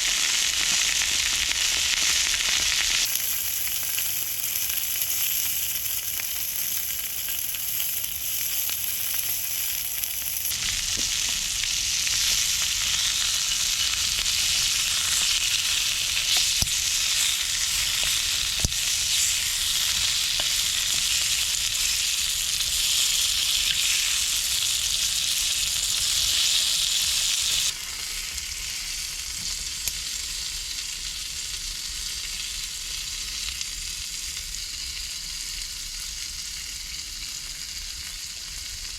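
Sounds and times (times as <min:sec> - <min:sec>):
food sizzling in frying pan: 0:00.0 - 0:38.9.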